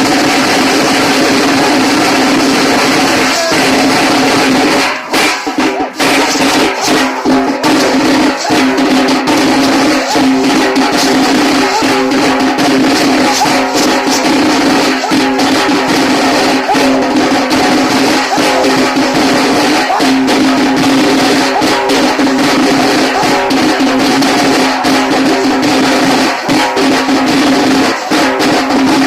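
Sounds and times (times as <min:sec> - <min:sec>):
rapid kettle drumming: 0:00.0 - 0:29.0.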